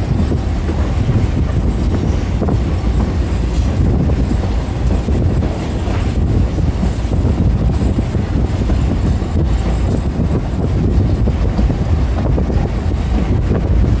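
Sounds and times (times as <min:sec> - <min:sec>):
train rumbling along track: 0:00.0 - 0:14.0
wind buffeting microphone: 0:00.0 - 0:14.0.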